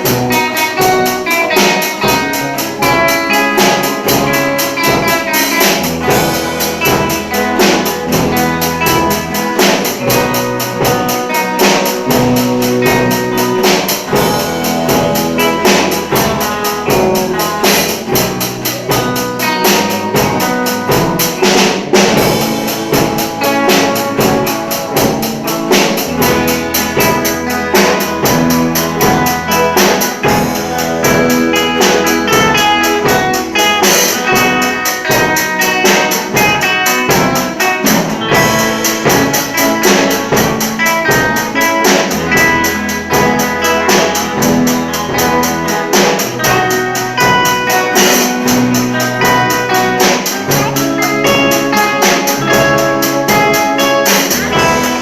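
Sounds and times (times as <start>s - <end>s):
music with drum beat: 0.0s - 55.0s.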